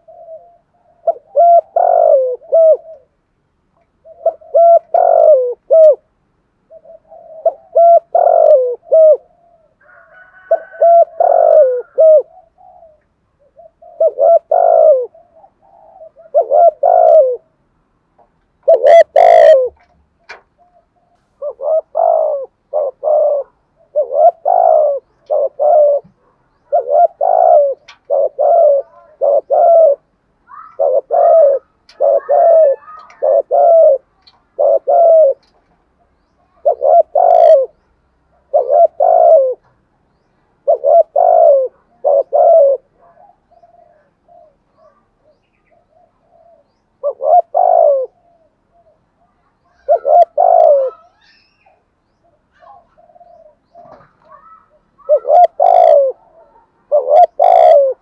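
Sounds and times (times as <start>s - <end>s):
dove cooing: 0.0s - 3.2s, 3.9s - 17.6s, 18.6s - 58.0s.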